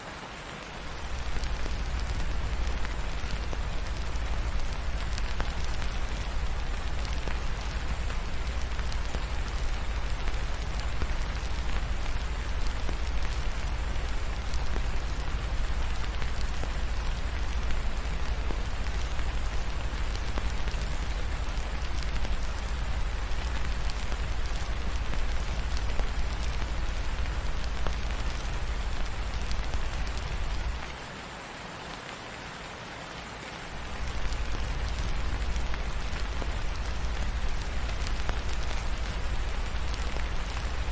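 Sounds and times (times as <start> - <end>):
steady rain on a surface: 0.0 - 40.9.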